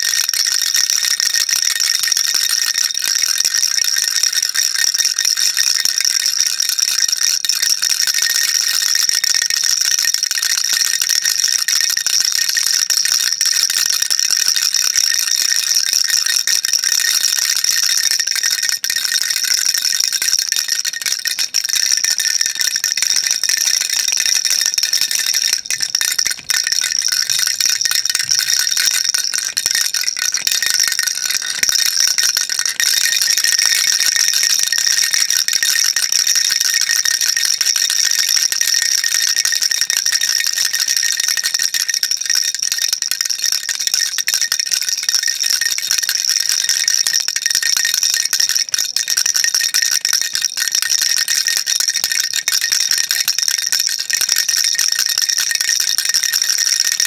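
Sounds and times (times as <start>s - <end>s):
baby rattle shaking: 0.0s - 7.4s, 8.0s - 47.6s, 48.3s - 56.0s.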